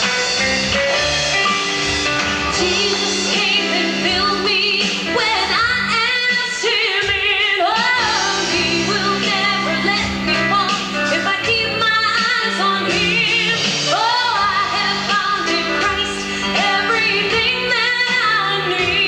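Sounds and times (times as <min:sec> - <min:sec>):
sustained musical accompaniment: 0:00.0 - 0:19.0
woman singing with vibrato: 0:02.4 - 0:19.0.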